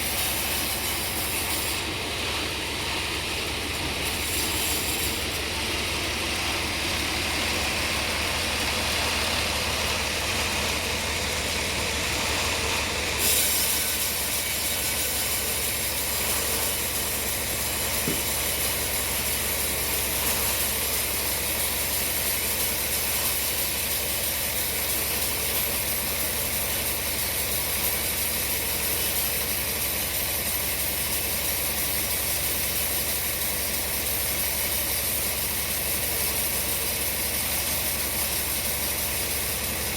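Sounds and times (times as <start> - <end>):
engine-driven saw cutting log: 0.0 - 39.9.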